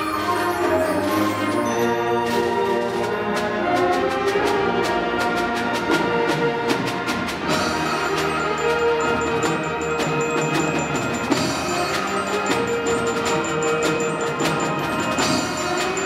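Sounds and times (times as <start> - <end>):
concert band playing: 0.0 - 16.0
percussion strikes: 0.0 - 16.0.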